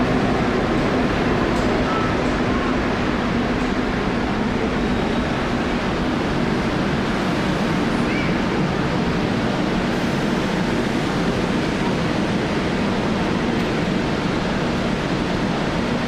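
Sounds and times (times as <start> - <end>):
city rumble: 0.0 - 16.0.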